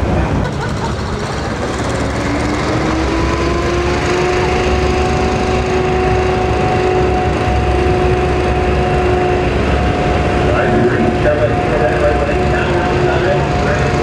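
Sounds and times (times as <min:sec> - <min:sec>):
engines idling low rumble: 0:00.0 - 0:14.0
steady whine: 0:00.0 - 0:14.0.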